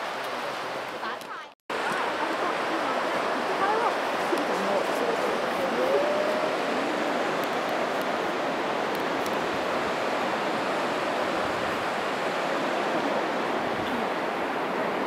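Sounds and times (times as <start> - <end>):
river rushing over rapids: 0.0 - 15.0.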